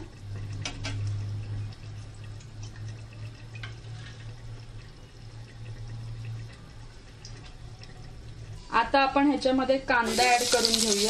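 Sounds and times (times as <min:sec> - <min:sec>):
oil ticking and crackling in pan: 0:00.0 - 0:11.0.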